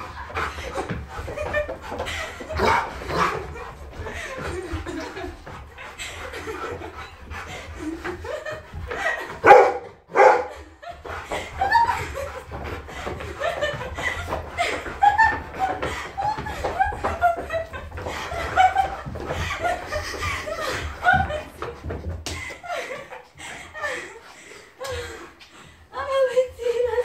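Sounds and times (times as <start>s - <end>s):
people laughing and giggling: 0.0s - 27.0s.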